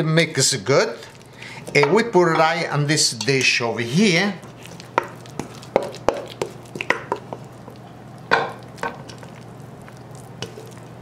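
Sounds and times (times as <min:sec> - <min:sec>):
soft squelches of meat mixture: 0:00.0 - 0:11.0.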